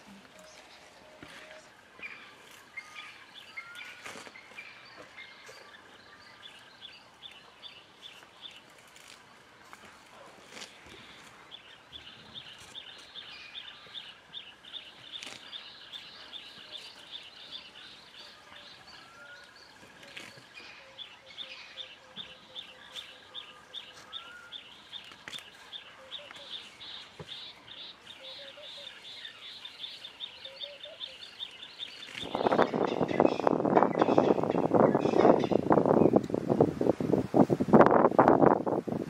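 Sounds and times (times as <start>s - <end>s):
faint lower bird calls: 0.0s - 7.0s, 10.2s - 36.2s.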